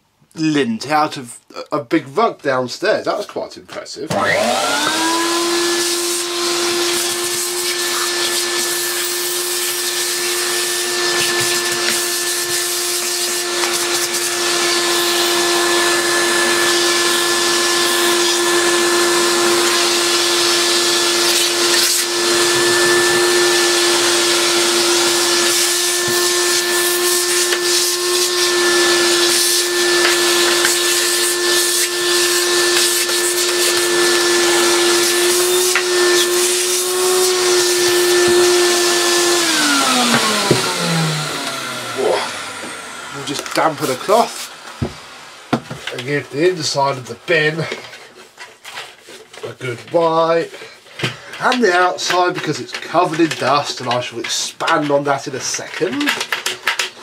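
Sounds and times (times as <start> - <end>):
vacuum cleaner motor whining: 4.1 - 57.0.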